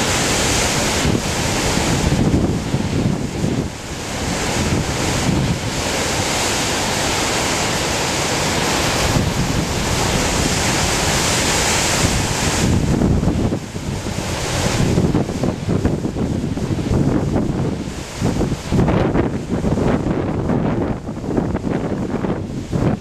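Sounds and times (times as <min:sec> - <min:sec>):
surf breaking: 0:00.0 - 0:23.0
wind buffeting microphone: 0:00.0 - 0:23.0.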